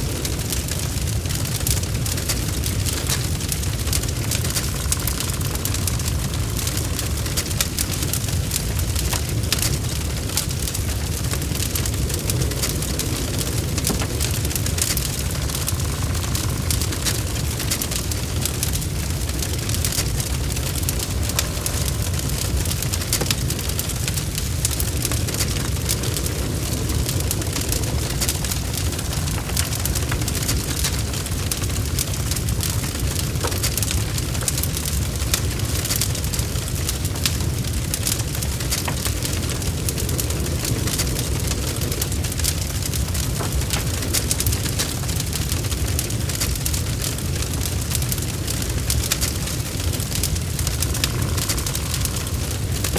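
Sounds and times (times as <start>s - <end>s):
rain hissing: 0.0s - 52.9s
wood fire crackling and popping: 0.0s - 52.9s.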